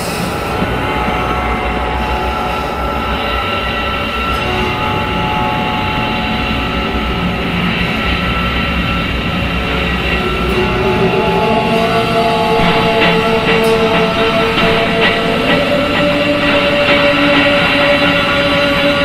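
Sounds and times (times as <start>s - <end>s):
drone of held tones: 0.0s - 19.0s
rumbling noise: 0.0s - 19.0s.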